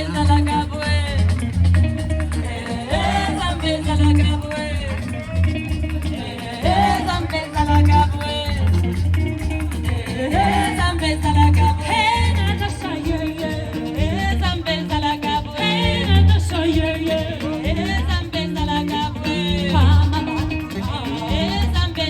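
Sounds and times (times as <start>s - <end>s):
band with low bass line: 0.0s - 22.0s
person singing: 2.3s - 22.0s.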